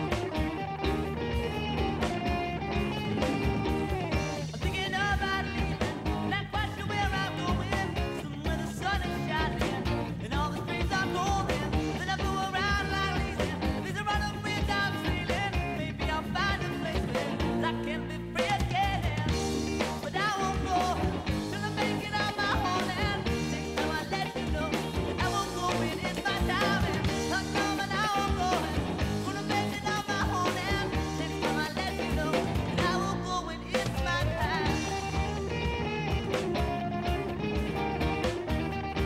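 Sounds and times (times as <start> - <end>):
rock song with singing: 0.0 - 39.0.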